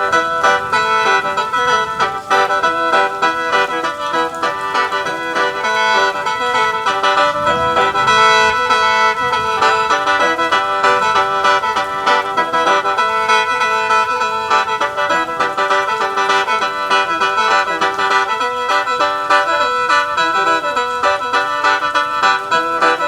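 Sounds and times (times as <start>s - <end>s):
mouth organ melody over drone: 0.0s - 23.0s.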